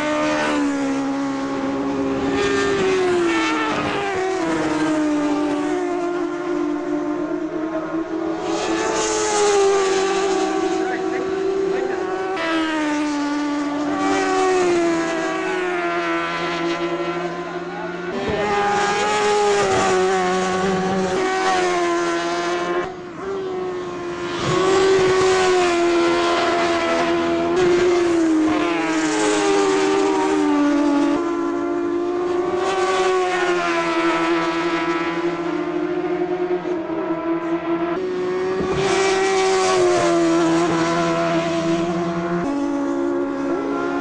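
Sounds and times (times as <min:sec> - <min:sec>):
racing motorcycle engines: 0:00.0 - 0:44.0.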